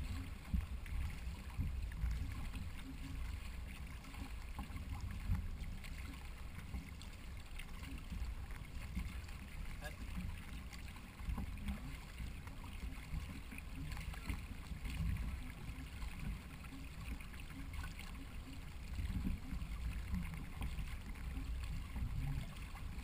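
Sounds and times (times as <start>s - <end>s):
water splashing along a canoe hull: 0.0s - 23.0s.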